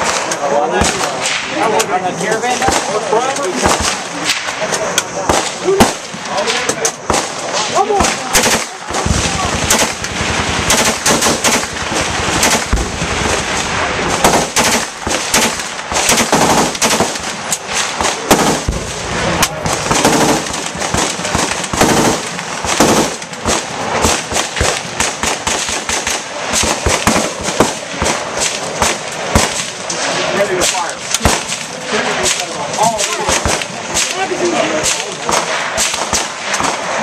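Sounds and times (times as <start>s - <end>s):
machine-gun fire: 0.0s - 37.0s.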